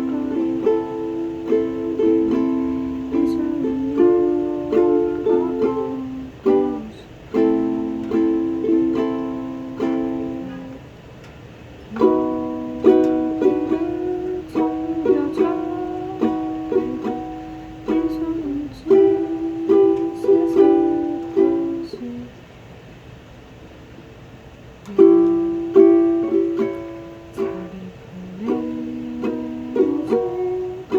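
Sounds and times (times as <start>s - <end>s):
ukulele playing chords: 0.0s - 11.0s, 11.8s - 22.3s, 24.8s - 30.9s.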